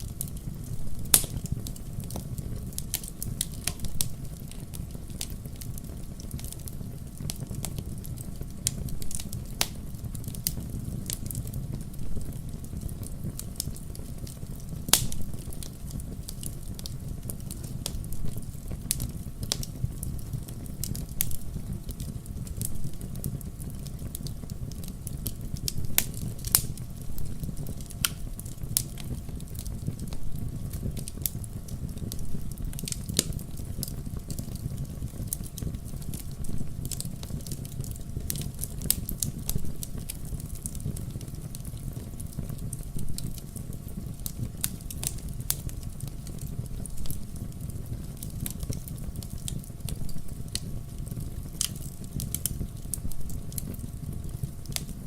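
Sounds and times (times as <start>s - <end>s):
fire crackling and popping: 0.0s - 55.0s
fire flames rumbling: 0.0s - 55.0s.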